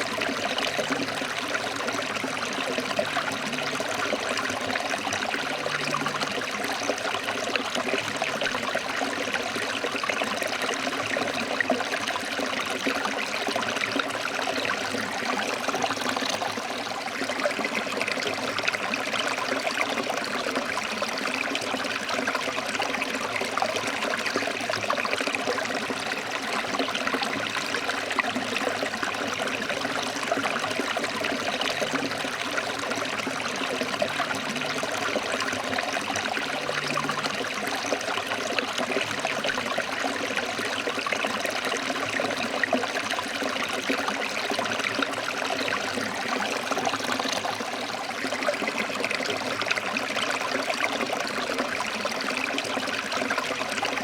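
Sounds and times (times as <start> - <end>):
water flowing over rocks: 0.0 - 54.0.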